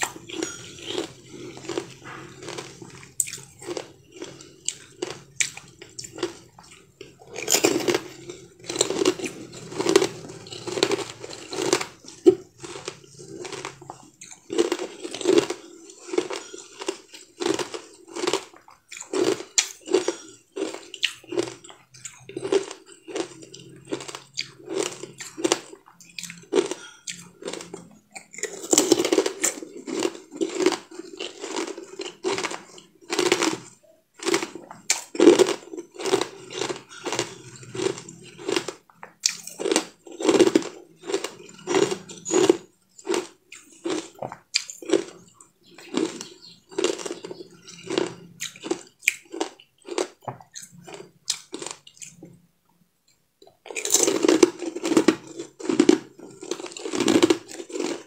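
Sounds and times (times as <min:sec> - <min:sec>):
crunching and chewing hard candy: 0:00.0 - 0:58.0.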